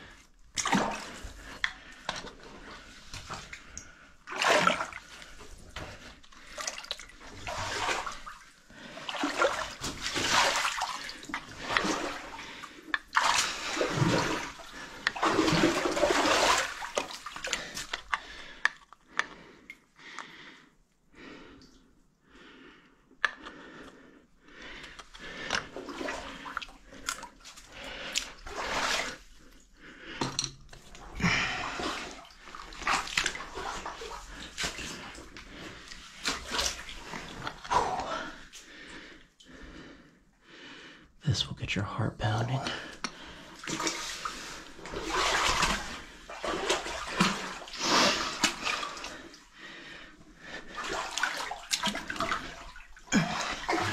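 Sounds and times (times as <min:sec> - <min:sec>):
muddy water sloshing and splashing: 0:00.0 - 0:19.5, 0:24.7 - 0:29.6, 0:30.7 - 0:38.9, 0:42.5 - 0:53.9.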